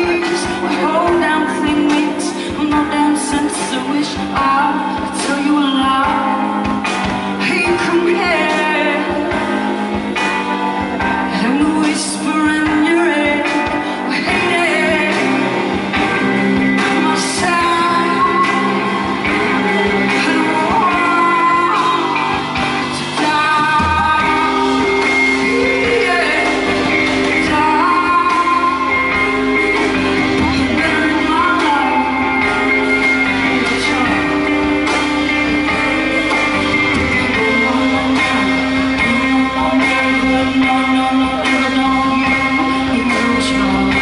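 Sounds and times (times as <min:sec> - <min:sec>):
drums: 0:00.0 - 0:44.0
live band playing: 0:00.0 - 0:44.0
woman singing into a microphone: 0:00.0 - 0:44.0.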